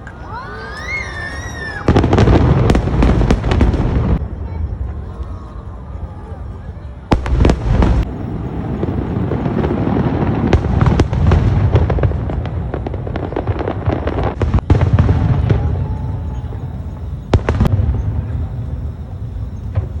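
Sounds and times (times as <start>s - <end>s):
fireworks rapid crackling: 0.2s - 20.0s
fireworks deep rolling booms: 1.4s - 20.0s.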